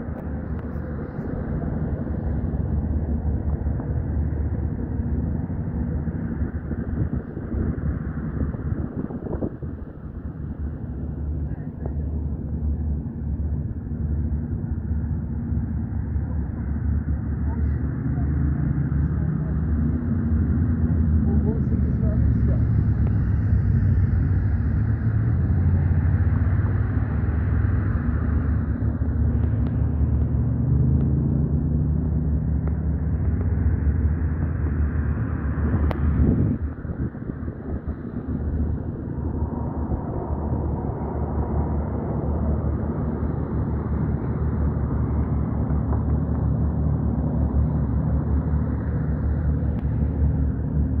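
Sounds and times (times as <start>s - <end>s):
wind buffeting microphone: 0.0s - 17.1s, 18.5s - 51.0s
low outdoor rumble: 0.0s - 51.0s.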